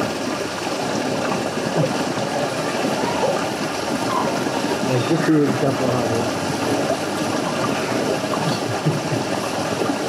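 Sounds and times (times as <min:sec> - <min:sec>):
creek water flowing: 0:00.0 - 0:10.0.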